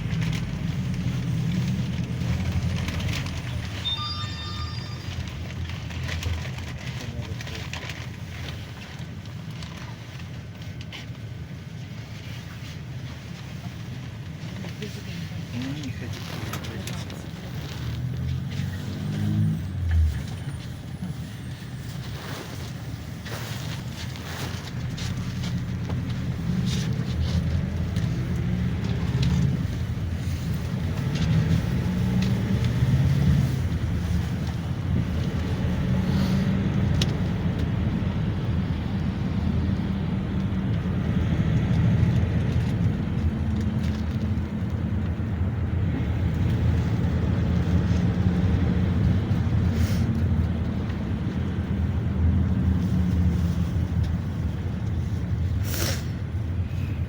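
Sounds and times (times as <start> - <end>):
minibus engine and road rumble: 0.0 - 57.0.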